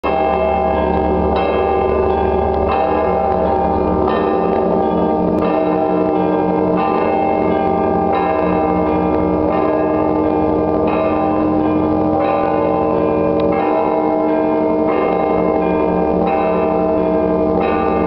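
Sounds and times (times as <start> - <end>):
church bells ringing: 0.0 - 18.0
hum of large bells: 0.0 - 18.0.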